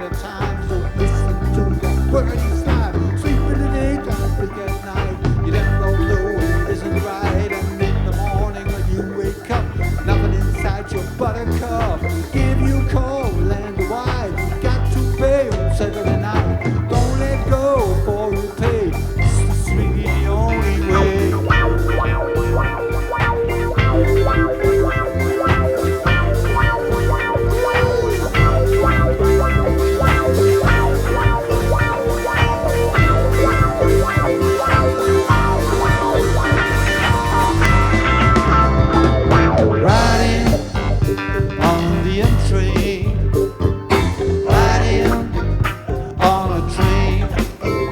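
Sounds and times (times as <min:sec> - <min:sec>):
bass: 0:00.0 - 0:47.9
drum beat: 0:00.0 - 0:47.9
lead guitar line: 0:00.0 - 0:47.9
live rock band playing: 0:00.0 - 0:47.9
person singing: 0:00.0 - 0:47.9.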